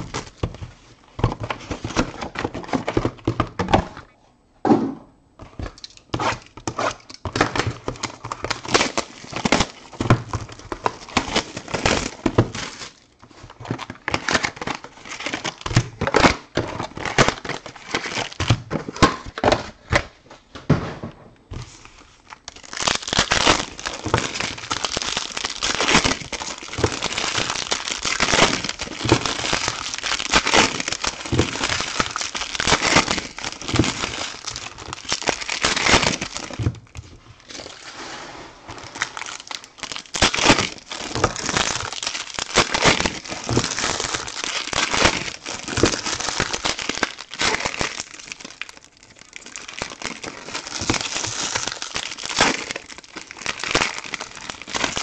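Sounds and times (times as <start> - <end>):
plastic and foil wrappers crinkling: 0.0 - 4.1, 5.5 - 20.3, 21.5 - 55.0
wrapper tearing: 5.8 - 19.4, 21.6 - 37.9, 38.7 - 55.0.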